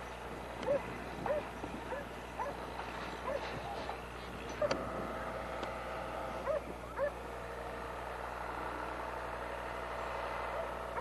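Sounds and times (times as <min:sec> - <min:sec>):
distant tractor running: 0:00.0 - 0:11.0.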